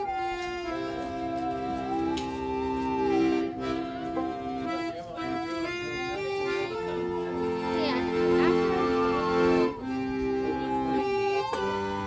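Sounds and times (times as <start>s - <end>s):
accordion chords: 0.0s - 12.0s
bowed musical saw melody: 0.0s - 12.0s
string band backing: 0.0s - 12.0s.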